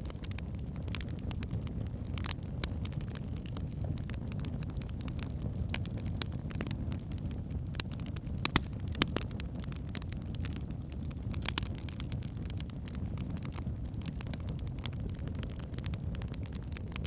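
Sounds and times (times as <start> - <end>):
fire crackling and popping: 0.0 - 17.0
log fire low roar: 0.0 - 17.0.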